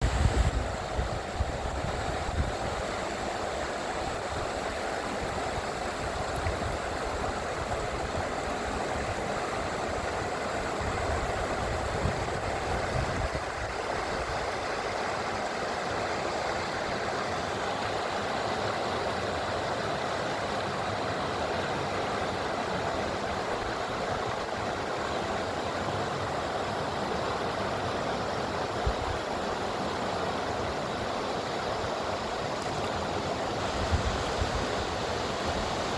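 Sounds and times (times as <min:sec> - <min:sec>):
river flowing over stones: 0:00.0 - 0:35.9.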